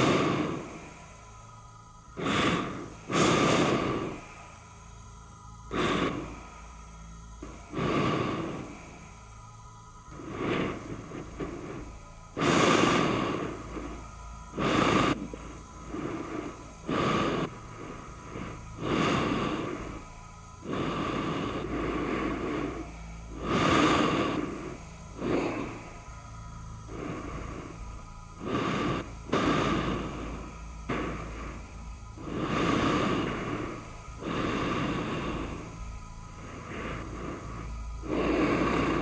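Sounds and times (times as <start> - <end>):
heavy human breathing: 0.0 - 39.0
low hum: 0.0 - 39.0.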